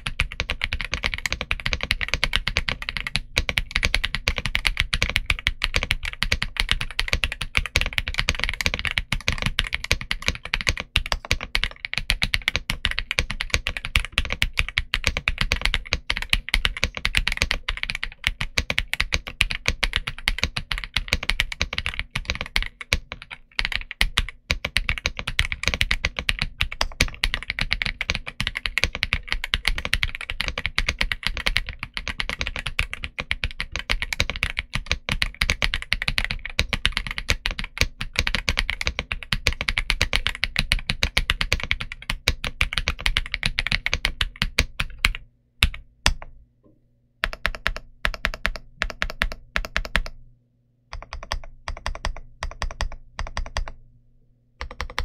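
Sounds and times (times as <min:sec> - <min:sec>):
mechanical keyboard typing: 0:00.0 - 0:46.3, 0:47.2 - 0:50.2, 0:50.9 - 0:53.8, 0:54.6 - 0:55.0.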